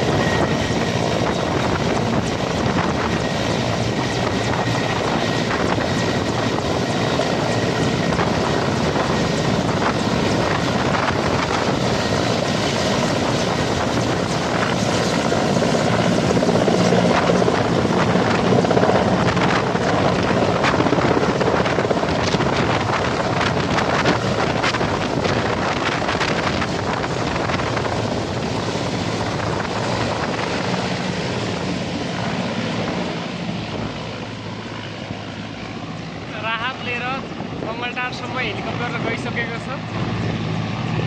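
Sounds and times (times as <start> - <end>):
helicopter turbines and rotor: 0.0 - 41.0.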